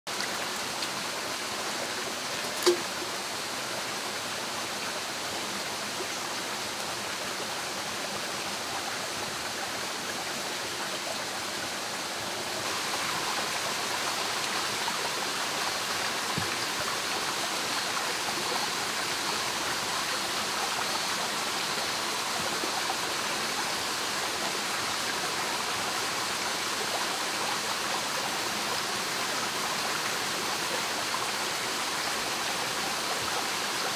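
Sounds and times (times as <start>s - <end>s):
stream babbling over stones: 0.1s - 33.9s.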